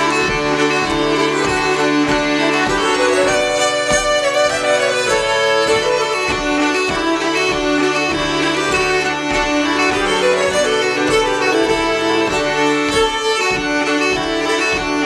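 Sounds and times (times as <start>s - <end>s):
accordion: 0.0s - 15.0s
bowed nyckelharpas playing a tune: 0.0s - 15.0s
flute: 0.0s - 15.0s.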